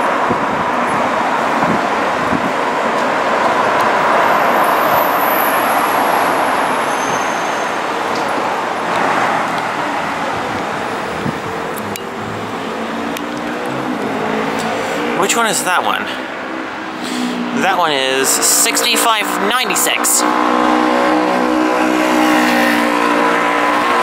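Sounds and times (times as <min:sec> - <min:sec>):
bus driving off: 0:00.0 - 0:24.0
street traffic noise: 0:00.0 - 0:24.0.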